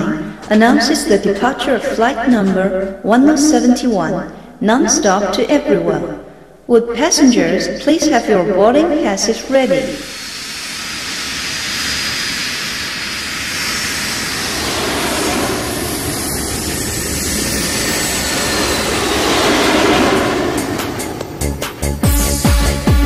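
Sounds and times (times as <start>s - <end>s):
jet engines running up: 0.0s - 3.5s, 6.1s - 23.0s.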